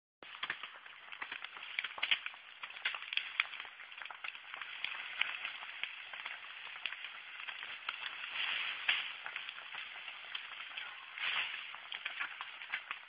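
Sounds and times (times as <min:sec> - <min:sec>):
faint crackling hiss: 0:00.2 - 0:13.0
small irregular clicks: 0:00.2 - 0:13.0.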